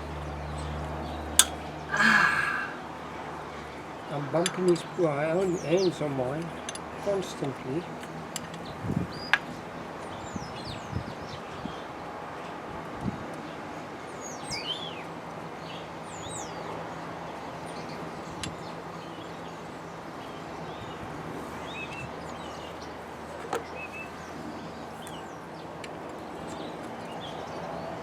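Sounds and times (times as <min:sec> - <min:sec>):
small birds chirping: 0:00.0 - 0:11.9, 0:14.2 - 0:28.0
background noise: 0:00.0 - 0:28.0.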